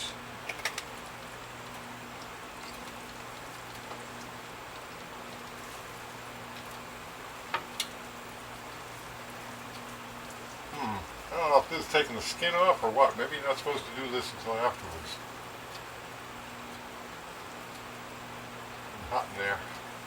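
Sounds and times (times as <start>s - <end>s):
chicken sizzling and crackling: 0.0s - 20.0s
steady low hum: 0.0s - 20.0s.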